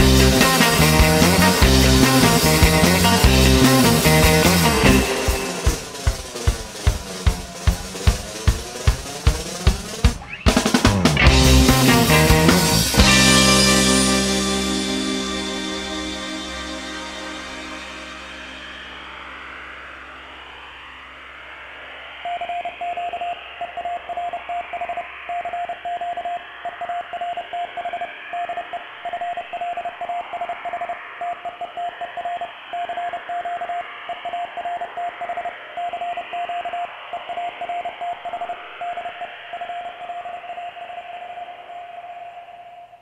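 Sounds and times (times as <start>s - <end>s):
radio static hiss: 0.0s - 43.0s.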